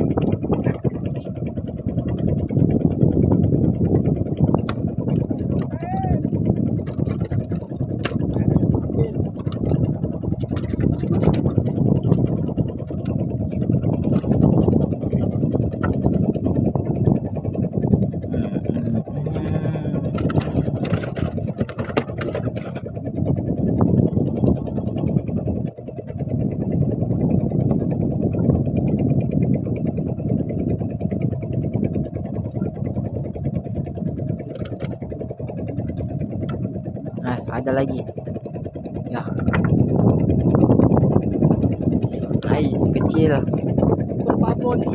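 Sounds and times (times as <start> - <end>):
boat engine rumbling: 0.0 - 44.9.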